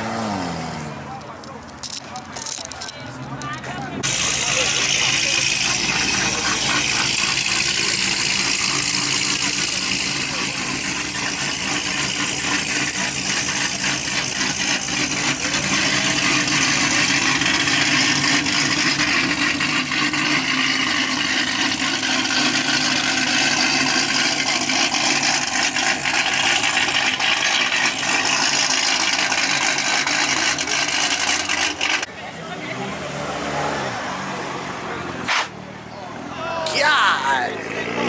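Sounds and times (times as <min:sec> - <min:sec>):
car engines running: 0:00.0 - 0:38.0.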